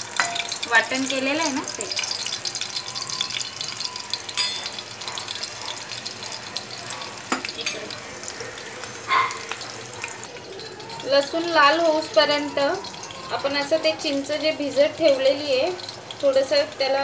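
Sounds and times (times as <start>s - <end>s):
garlic sizzling in hot oil: 0.0s - 17.0s.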